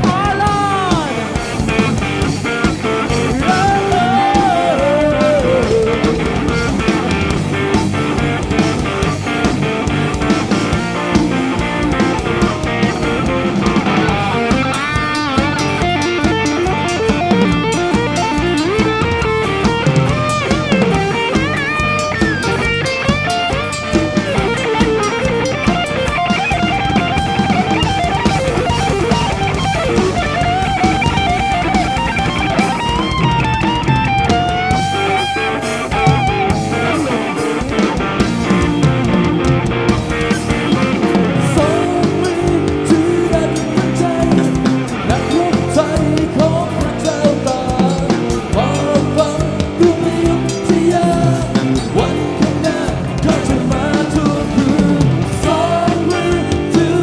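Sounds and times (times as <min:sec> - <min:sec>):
driving drum kit: 0:00.0 - 0:57.0
electric guitar lead melody: 0:00.0 - 0:57.0.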